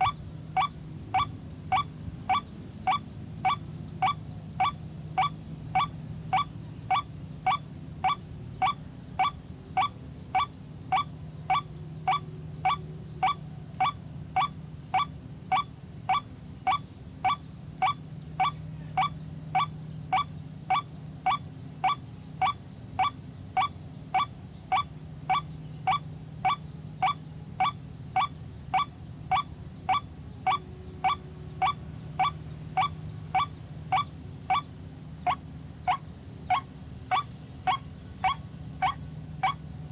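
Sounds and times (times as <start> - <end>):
waterhen call: 0.0 - 39.6
low steady rumble: 0.0 - 39.9.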